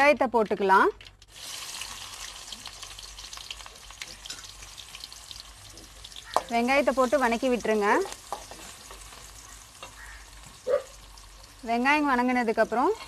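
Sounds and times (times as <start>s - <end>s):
onions sizzling in hot oil: 1.2s - 13.0s.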